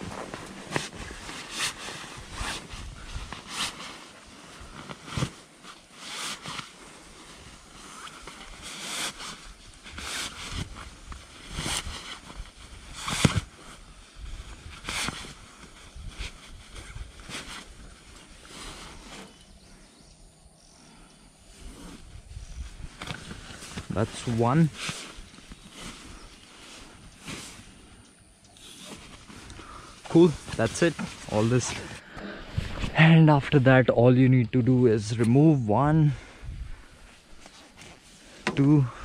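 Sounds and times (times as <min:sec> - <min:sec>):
sleeping bag rustling: 0:00.0 - 0:33.3, 0:36.1 - 0:39.0.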